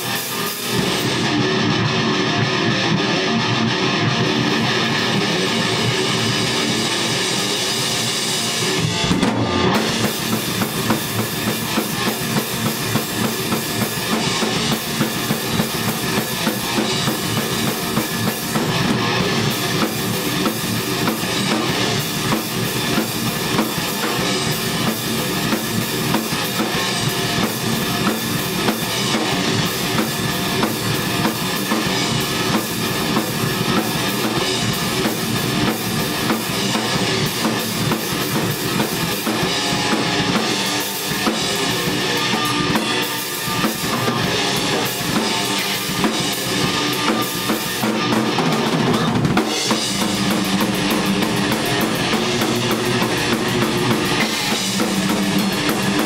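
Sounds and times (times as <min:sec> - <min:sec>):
drum kit playing: 0:00.0 - 0:56.0
electric guitar through amplifier: 0:00.0 - 0:56.0.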